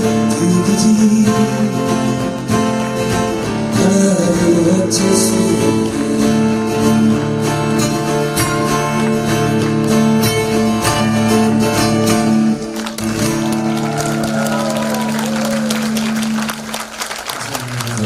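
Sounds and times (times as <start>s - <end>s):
acoustic guitar strumming: 0.0s - 16.8s.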